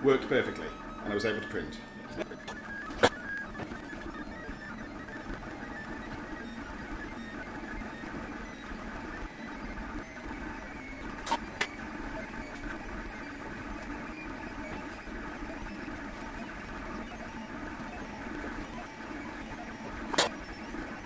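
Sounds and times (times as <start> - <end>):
three d printer motors whirring: 0.0 - 21.0.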